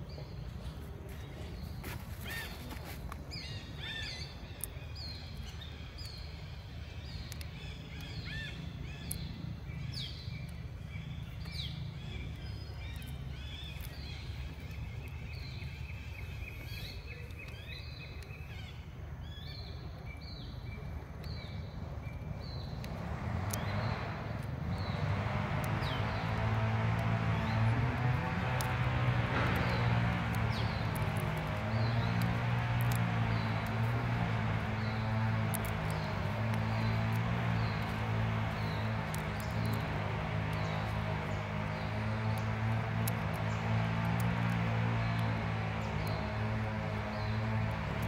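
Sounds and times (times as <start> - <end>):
bird chirping high downward: 0.0 - 48.0
vehicle engine: 0.0 - 48.0.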